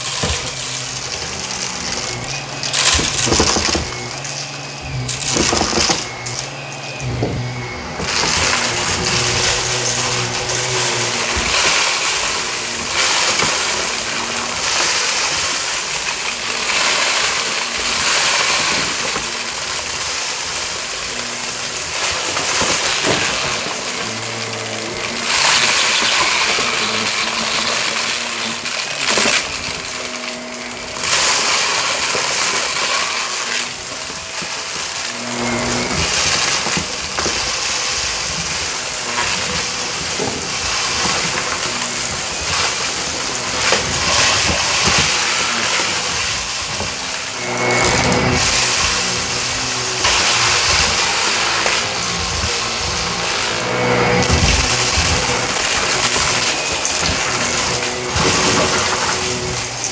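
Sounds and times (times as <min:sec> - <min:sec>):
debris crunching and rattling: 0:00.0 - 0:59.9
vacuum cleaner on carpet: 0:00.0 - 0:59.9.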